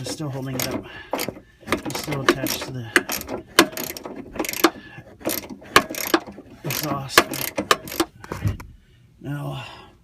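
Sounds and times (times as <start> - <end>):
socket wrench ratchet clicking: 0.0 - 8.2.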